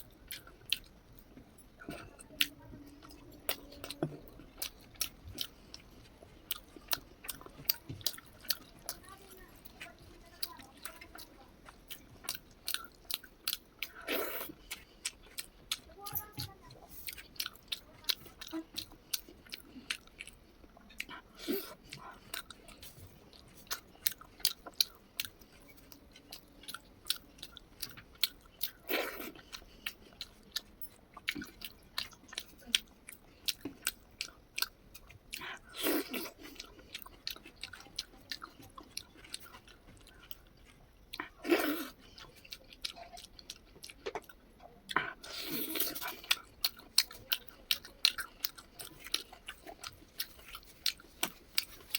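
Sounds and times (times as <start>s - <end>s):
chewing with wet mouth clicks: 0.0s - 51.9s.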